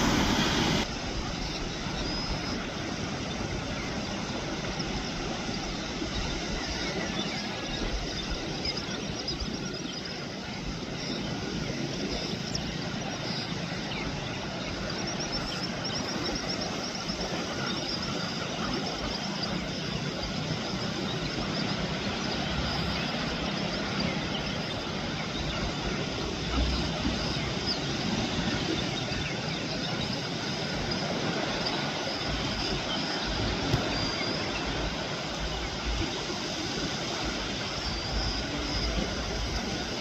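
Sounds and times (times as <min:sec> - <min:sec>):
surf washing on shore: 0:00.0 - 0:40.0
wind: 0:00.0 - 0:40.0.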